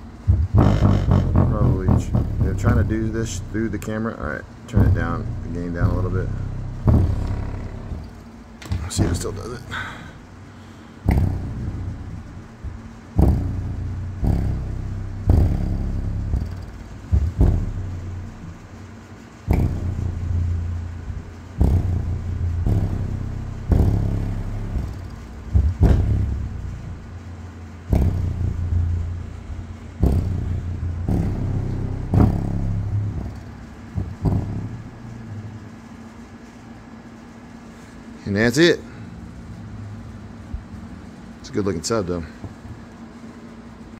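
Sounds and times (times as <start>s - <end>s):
subwoofer deep bass hits: 0.0s - 10.3s, 11.0s - 36.5s.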